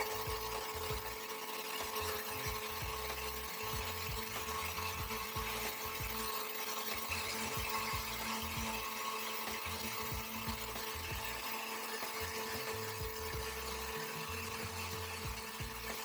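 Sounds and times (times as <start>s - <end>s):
blender motor running: 0.0s - 16.0s.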